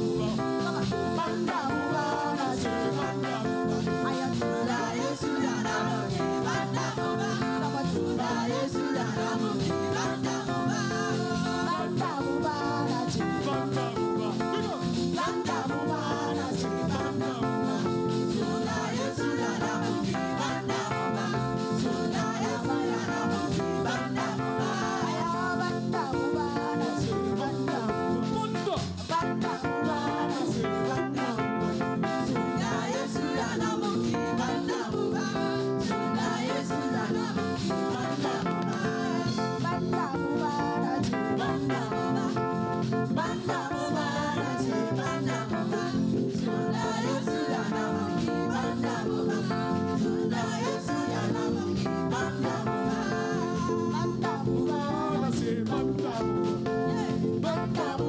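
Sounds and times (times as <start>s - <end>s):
praise music with singing: 0.0s - 58.0s.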